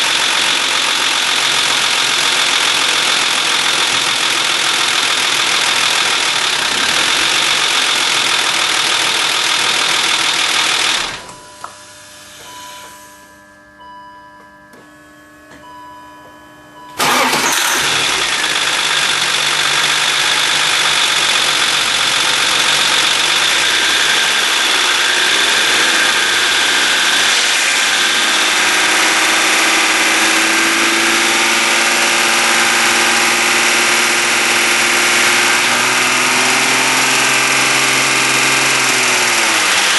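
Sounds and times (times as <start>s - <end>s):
car engine running: 0.0s - 11.7s, 17.0s - 39.9s.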